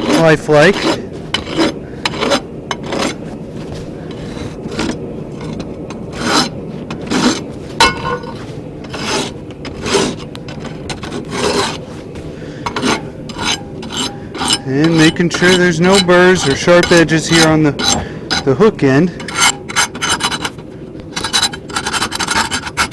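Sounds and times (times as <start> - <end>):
rasp filing steel: 0.0 - 3.4, 4.1 - 11.9, 12.6 - 22.9.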